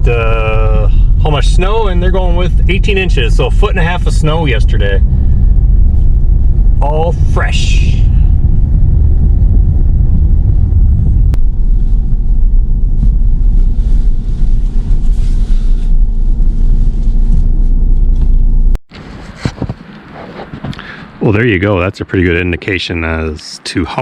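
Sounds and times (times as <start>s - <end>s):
road and engine rumble in car: 0.0s - 24.0s.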